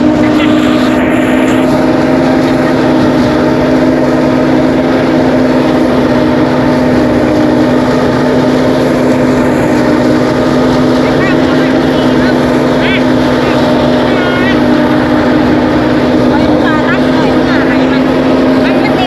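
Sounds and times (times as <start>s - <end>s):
threshing machine engine droning: 0.0s - 19.0s.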